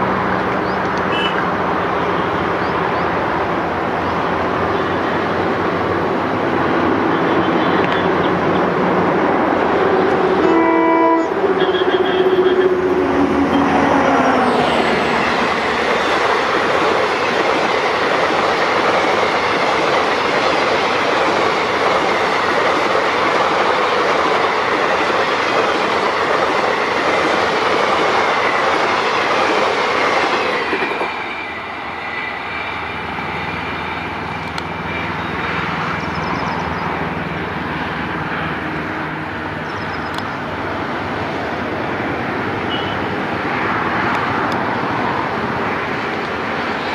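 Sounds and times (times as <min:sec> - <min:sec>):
diesel locomotive passing: 0:00.0 - 0:46.9
train rumble: 0:00.0 - 0:46.9.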